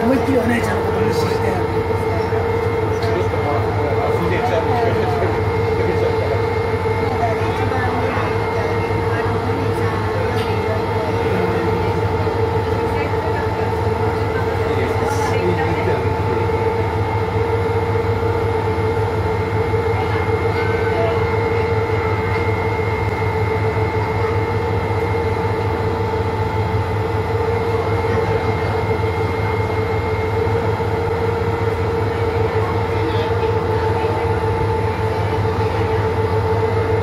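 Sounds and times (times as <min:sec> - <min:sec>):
boat engine drone and whine: 0:00.0 - 0:37.0.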